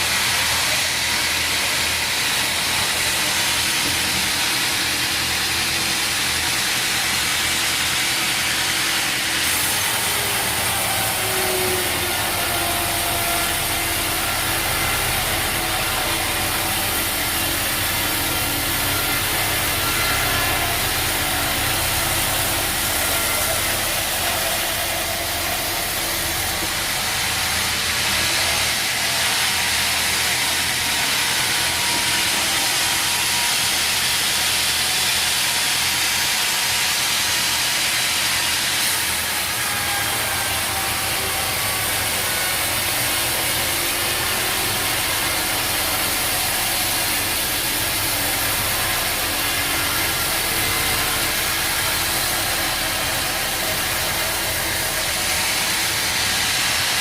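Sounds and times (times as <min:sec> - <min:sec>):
machinery hissing and humming: 0:00.0 - 0:57.0.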